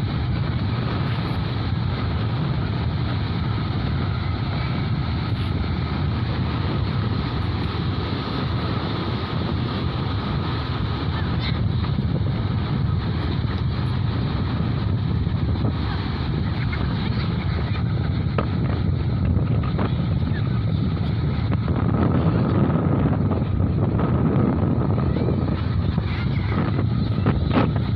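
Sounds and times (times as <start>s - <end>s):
surf on a beach: 0.0s - 27.9s
wind buffeting microphone: 0.0s - 27.9s.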